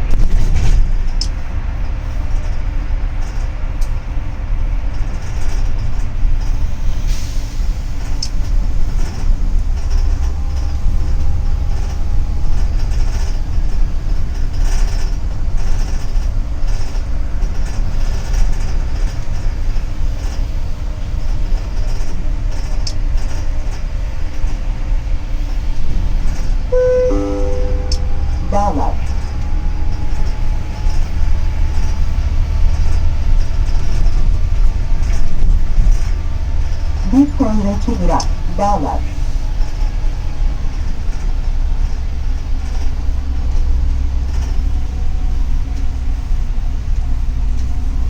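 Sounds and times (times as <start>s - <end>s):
bus engine and road rumble: 0.0s - 48.0s.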